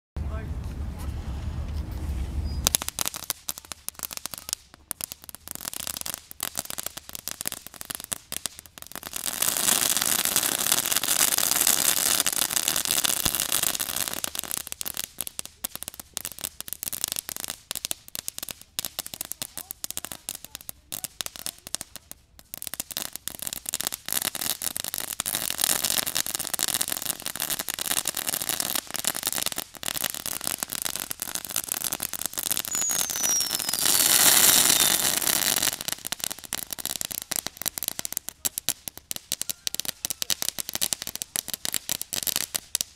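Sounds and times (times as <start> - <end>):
firework rapid crackling: 1.0 - 42.9
firework steady hiss: 1.0 - 42.9.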